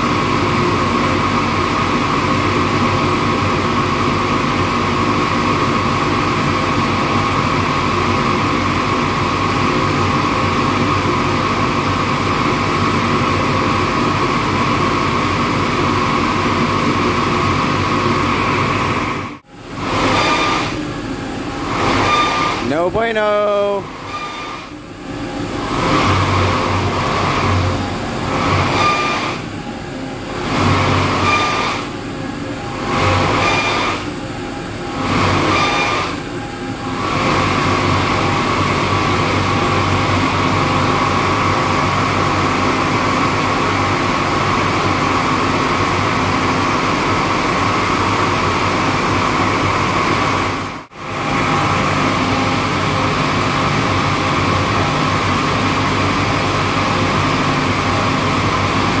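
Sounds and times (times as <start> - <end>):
chiller compressor surging: 0.0 - 59.0.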